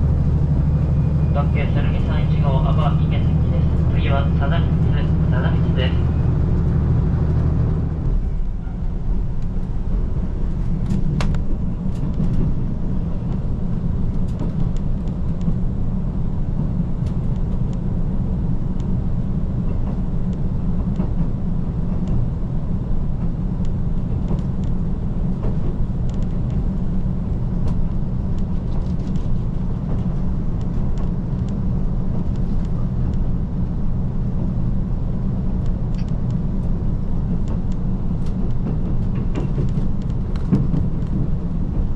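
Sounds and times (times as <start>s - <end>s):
diesel railcar rumbling: 0.0s - 41.9s.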